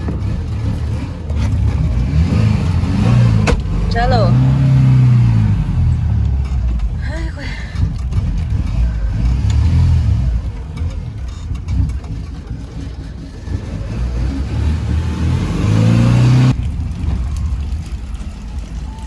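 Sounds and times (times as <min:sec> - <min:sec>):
vehicle engine rumbling and accelerating: 0:00.0 - 0:19.0.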